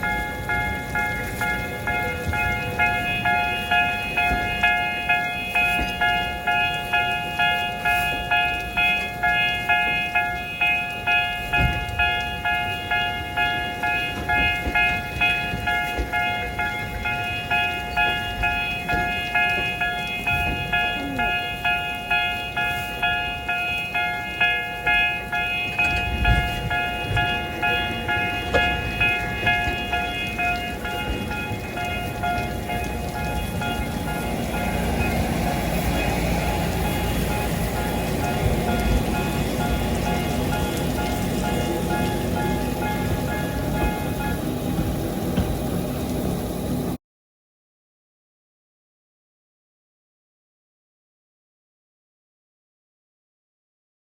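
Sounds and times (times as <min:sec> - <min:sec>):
level crossing electronic bell: 0:00.0 - 0:44.4
low rumble of passing train: 0:00.0 - 0:47.0.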